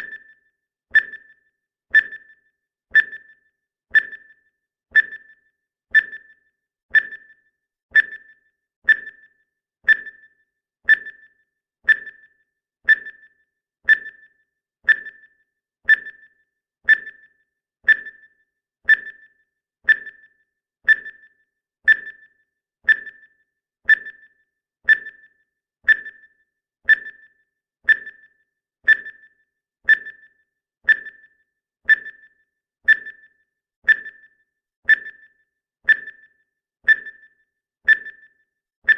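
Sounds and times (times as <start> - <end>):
timer ticking: 0.0 - 38.9.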